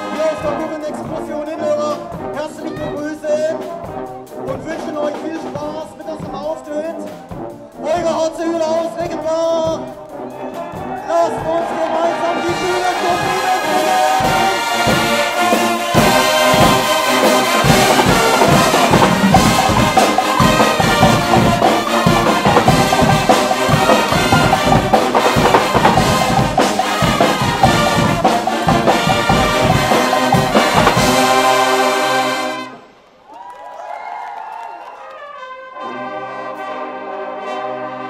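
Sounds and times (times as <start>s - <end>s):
drums keeping a steady beat: 0.0s - 32.6s
brass band playing loudly: 0.0s - 33.1s, 35.1s - 38.0s.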